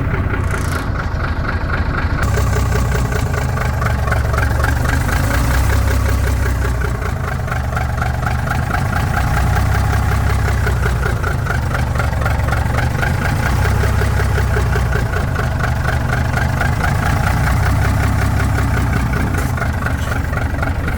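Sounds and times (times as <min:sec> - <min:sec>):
truck engine idling: 0:00.0 - 0:20.9.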